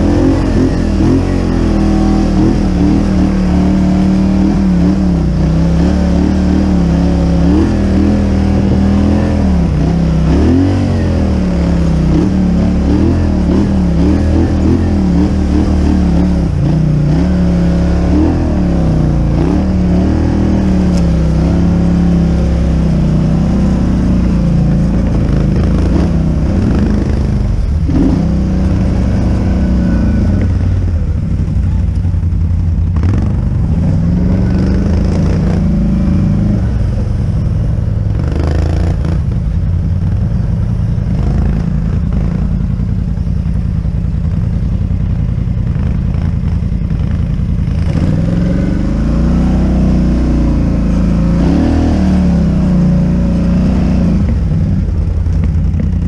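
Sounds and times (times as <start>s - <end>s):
quad bike engine revving: 0.0s - 43.2s, 45.4s - 56.0s.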